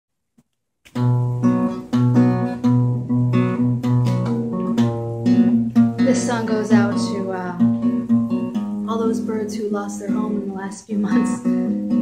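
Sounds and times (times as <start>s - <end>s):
acoustic guitar strumming: 0.9s - 12.0s.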